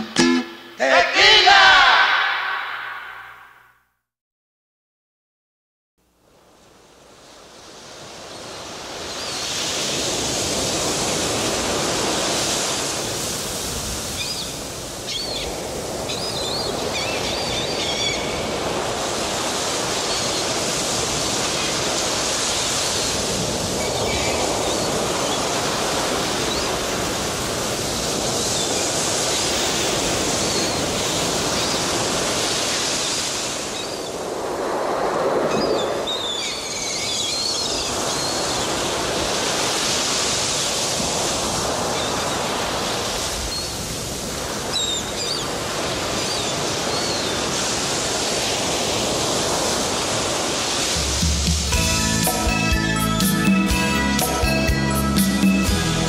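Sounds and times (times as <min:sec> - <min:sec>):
ocean surf washing: 0:06.4 - 0:56.0.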